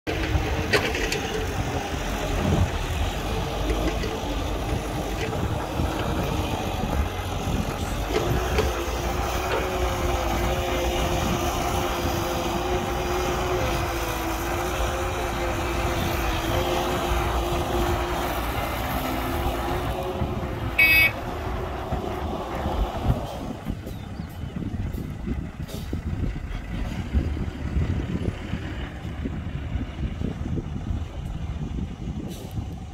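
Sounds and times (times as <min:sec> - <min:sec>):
diesel engine rumble: 0:00.0 - 0:32.9.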